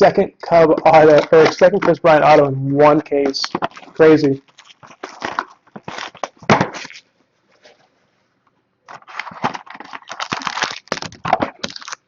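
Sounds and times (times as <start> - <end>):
cards and packaging rustling: 0.0 - 7.8, 8.9 - 12.0.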